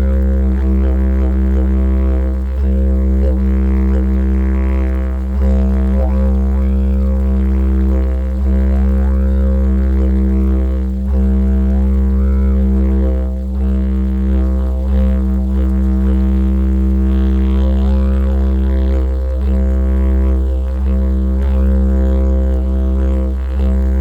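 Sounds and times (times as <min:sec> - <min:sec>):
didgeridoo drone: 0:00.0 - 0:24.0.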